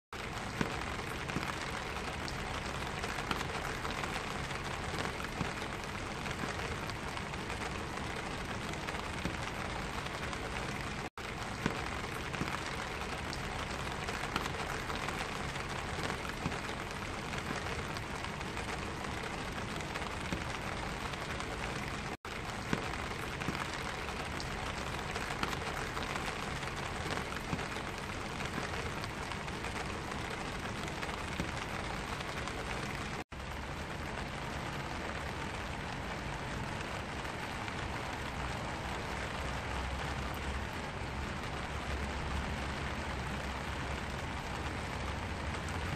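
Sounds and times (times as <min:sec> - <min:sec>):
rain on an umbrella: 0:00.1 - 0:45.9.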